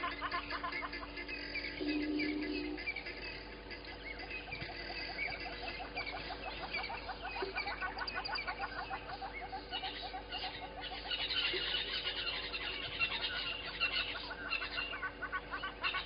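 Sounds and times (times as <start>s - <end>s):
birds chirping: 0.0s - 16.0s
shrill bird calls: 0.0s - 16.0s.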